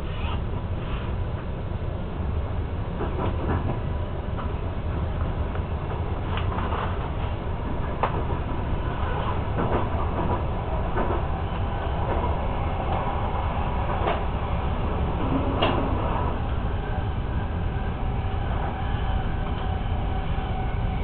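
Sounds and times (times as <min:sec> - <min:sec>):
train rumble inside carriage: 0:00.0 - 0:21.0
wheels clacking on rails: 0:02.9 - 0:21.0.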